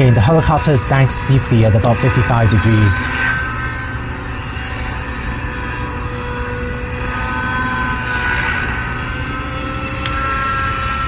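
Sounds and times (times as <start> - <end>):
model helicopter engine whine: 0.0 - 11.0.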